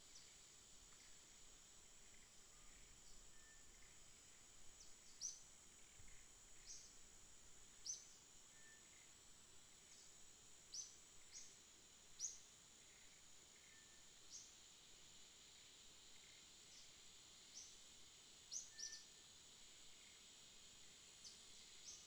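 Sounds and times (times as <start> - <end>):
high-pitched insect drone: 0.1 - 7.0, 7.6 - 14.6, 15.5 - 22.0.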